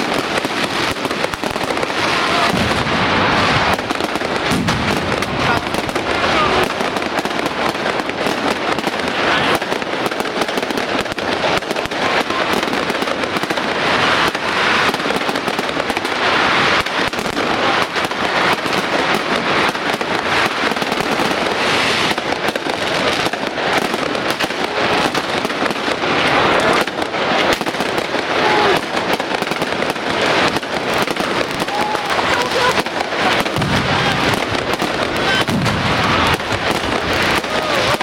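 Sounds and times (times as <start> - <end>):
fireworks banging and crackling: 0.0 - 38.0.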